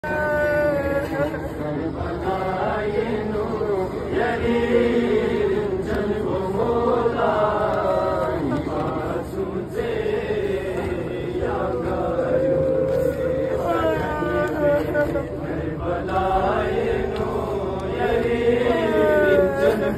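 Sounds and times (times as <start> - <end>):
men chanting a mourning lament: 0.0 - 19.9.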